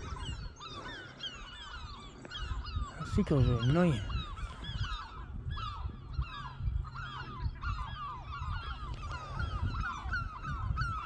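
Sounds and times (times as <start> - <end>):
seagulls calling: 0.0 - 11.0.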